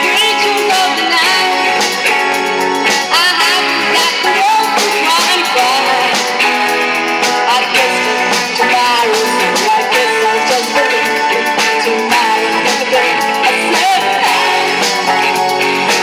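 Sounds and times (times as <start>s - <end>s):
live rock band playing: 0.0s - 16.0s
pitch-bending lead melody: 0.0s - 16.0s.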